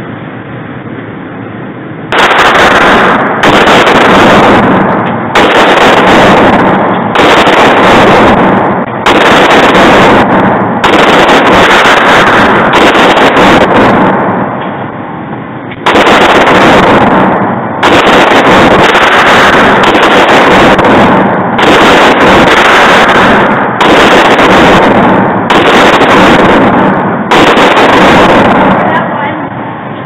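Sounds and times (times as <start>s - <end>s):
pistol shots: 2.1s - 14.5s, 15.7s - 29.0s.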